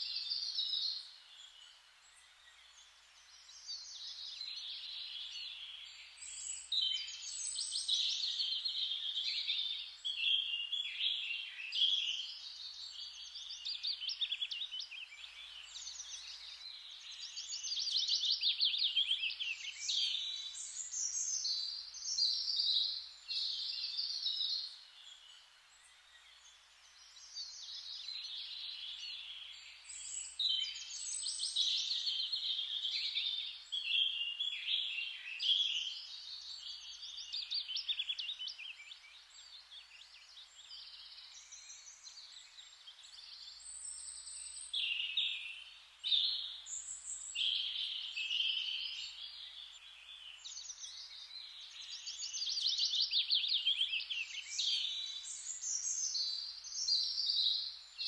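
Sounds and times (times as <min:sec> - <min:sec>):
faint background hiss: 0:00.0 - 0:58.0
songbirds singing: 0:00.0 - 0:58.0.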